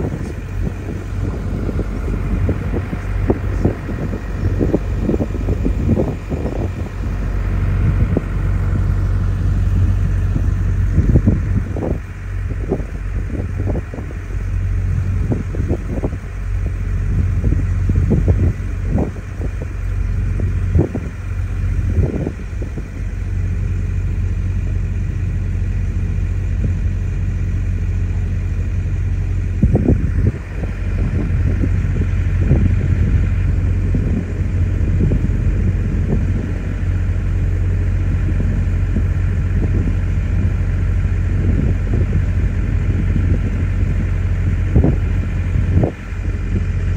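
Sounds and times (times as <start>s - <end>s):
low engine hum: 0.0s - 46.9s.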